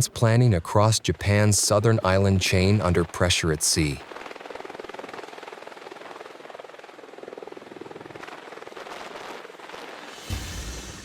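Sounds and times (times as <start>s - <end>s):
helicopter rotors chopping: 0.0s - 10.6s.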